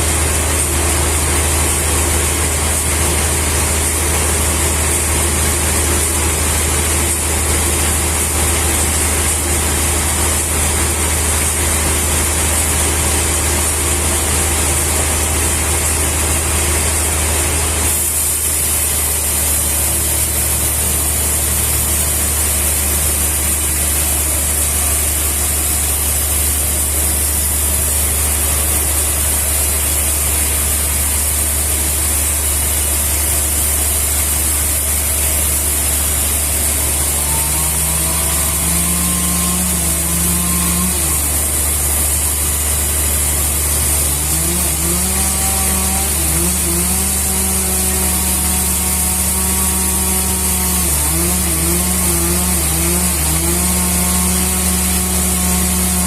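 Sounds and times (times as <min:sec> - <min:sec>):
machine humming with hiss: 0:00.0 - 0:56.0.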